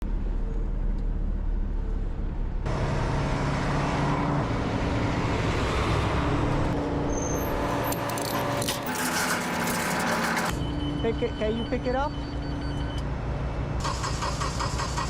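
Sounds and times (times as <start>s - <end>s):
heavy vehicle engine running: 0.0s - 15.0s
rush of road noise: 0.0s - 15.0s.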